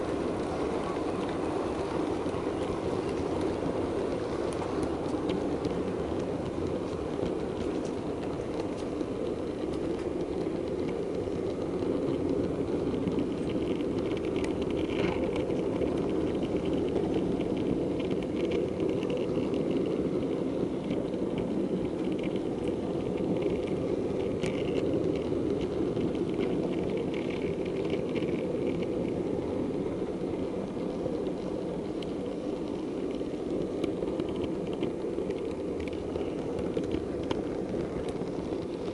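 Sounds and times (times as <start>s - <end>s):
model train rumbling on track: 0.0s - 38.9s
wheels clicking over rail joints: 0.0s - 38.9s.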